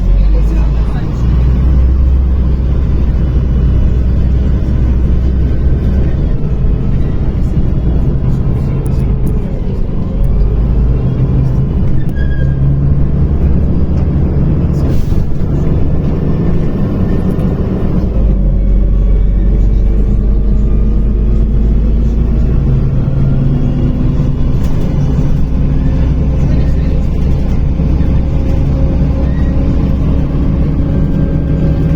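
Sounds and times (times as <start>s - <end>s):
bus diesel engine and road rumble: 0.0s - 31.9s.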